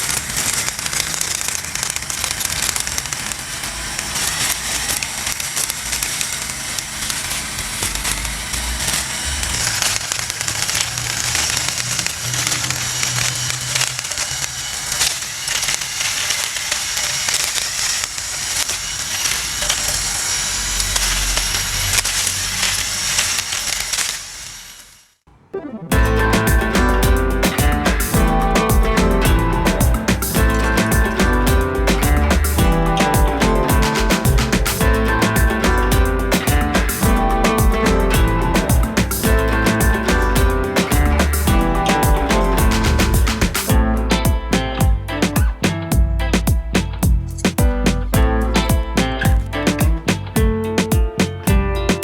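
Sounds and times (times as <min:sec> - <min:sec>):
drill lawn mower running: 0:00.0 - 0:24.8, 0:25.9 - 0:46.2
blade crackling through grass: 0:00.0 - 0:24.9, 0:26.3 - 0:52.0.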